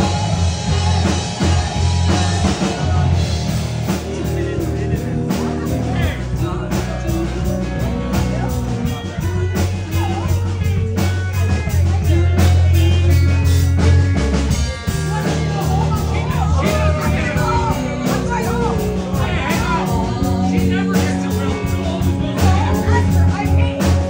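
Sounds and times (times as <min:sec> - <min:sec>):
crowd chatter: 0:00.0 - 0:24.0
live band playing: 0:00.0 - 0:24.0.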